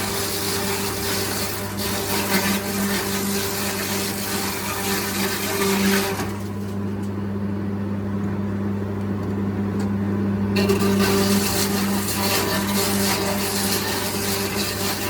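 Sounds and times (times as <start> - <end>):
sawmill machinery hum: 0.0 - 15.0.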